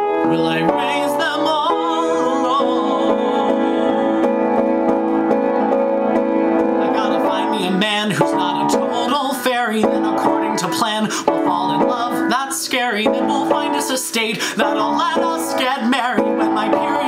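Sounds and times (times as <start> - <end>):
sustained keyboard chords: 0.0 - 17.0
wavering melody with vibrato: 0.0 - 17.0.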